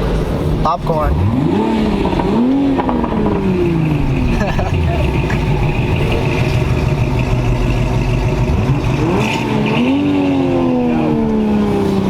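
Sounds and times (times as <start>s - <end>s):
car engine revving: 0.0s - 12.0s
car engines rumbling: 0.0s - 12.0s.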